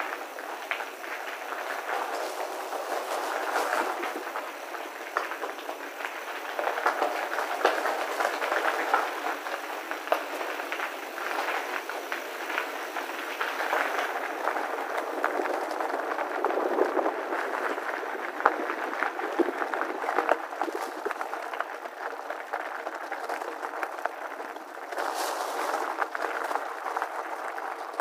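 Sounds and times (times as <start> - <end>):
bike tyres crunching on gravel: 0.0 - 28.0.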